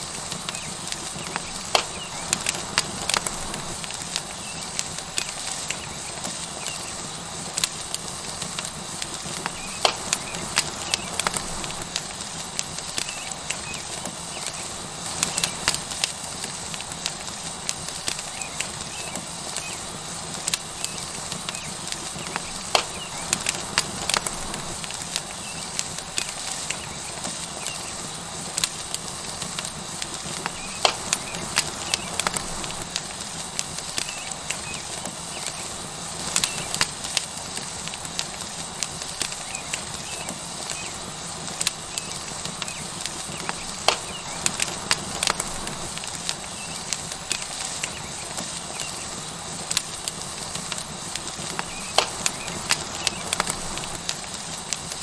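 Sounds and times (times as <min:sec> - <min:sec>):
burning wood crackling: 0:00.0 - 0:55.0
steak sizzling on hot stone: 0:00.0 - 0:55.0.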